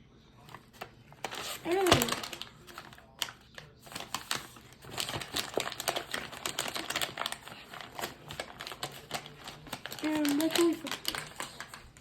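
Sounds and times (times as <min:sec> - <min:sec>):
paper bag crinkling: 0:00.4 - 0:12.0.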